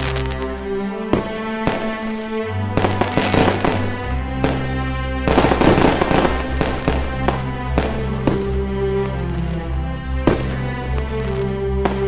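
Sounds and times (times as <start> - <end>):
background music with bass line: 0.0 - 12.0
fireworks bursting and crackling: 0.0 - 12.0.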